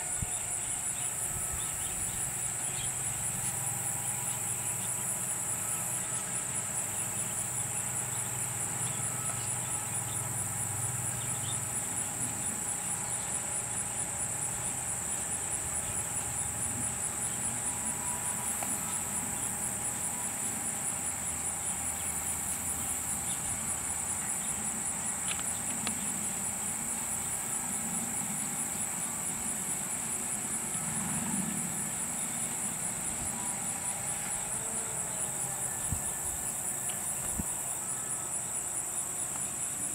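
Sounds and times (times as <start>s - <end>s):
pulsing insect chorus: 0.0s - 39.9s.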